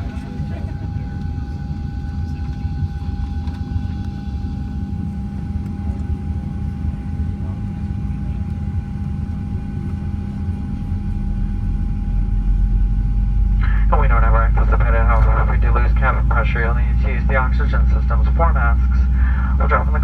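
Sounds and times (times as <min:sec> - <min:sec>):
aircraft engine rumble: 0:00.0 - 0:20.0
constant whine: 0:00.0 - 0:20.0.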